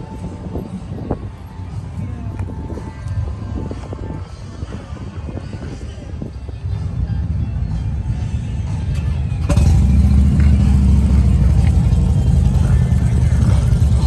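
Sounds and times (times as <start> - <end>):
motorcycle engines rumbling: 0.0 - 14.0
music playing: 0.0 - 14.0.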